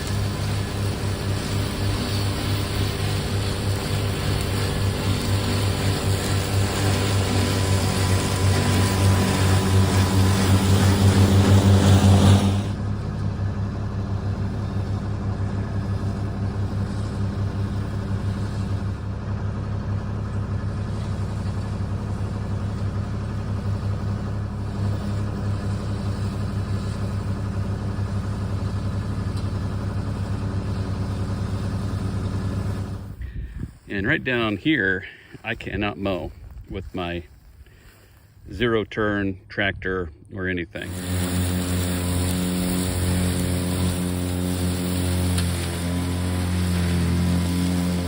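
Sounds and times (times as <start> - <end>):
lawn mower running: 0.0 - 39.0, 40.5 - 48.0.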